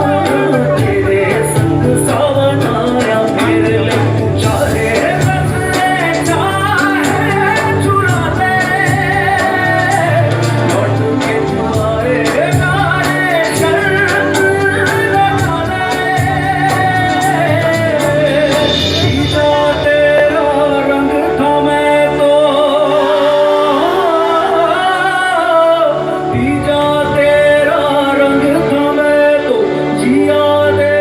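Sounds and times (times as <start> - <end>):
instrumental backing with beat: 0.0 - 31.0
person singing: 0.0 - 31.0.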